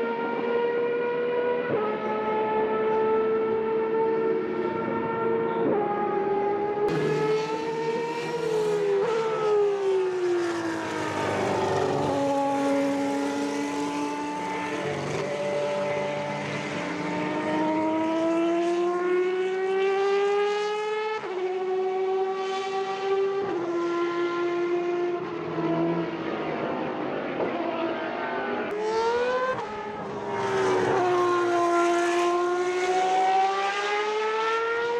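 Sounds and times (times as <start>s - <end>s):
race car engine at high revs: 0.0s - 34.9s.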